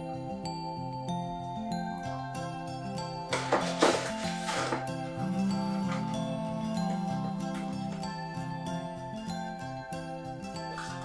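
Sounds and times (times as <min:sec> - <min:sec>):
melodic background music: 0:00.0 - 0:11.0.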